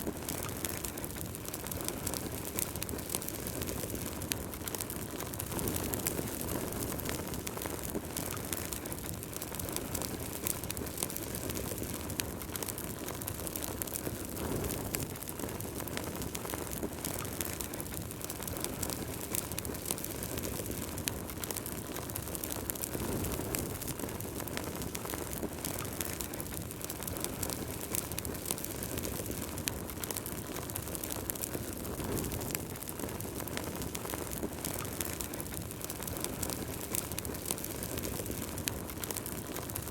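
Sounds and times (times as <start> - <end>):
fire crackling and popping: 0.0 - 39.9
low rush of flame: 0.0 - 39.9.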